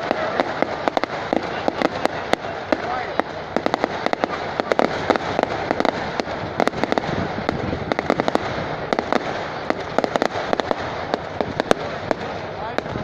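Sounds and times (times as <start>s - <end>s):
fireworks bangs and crackles: 0.0s - 13.0s
steady background noise: 0.0s - 13.0s.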